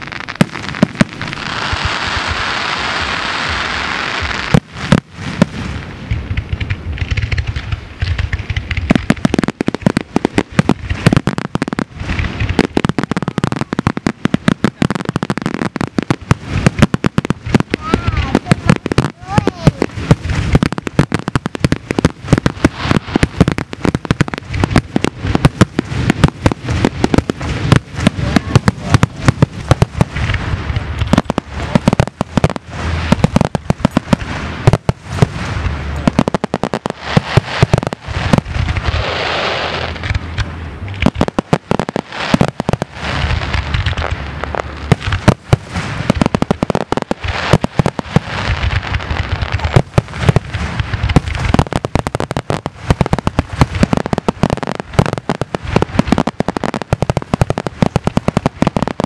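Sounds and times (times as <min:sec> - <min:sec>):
hissing crackle: 0:00.0 - 0:59.0
firework shells bursting: 0:04.2 - 0:59.0.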